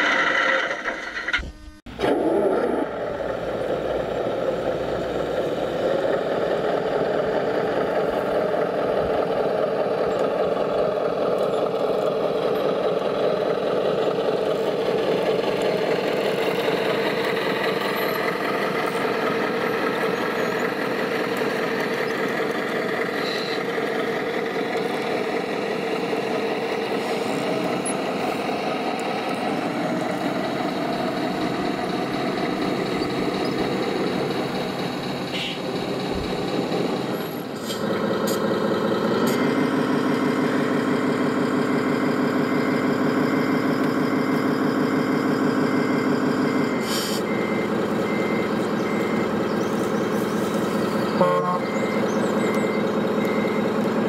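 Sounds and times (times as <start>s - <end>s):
toy trucks engine drone: 0.0s - 54.0s.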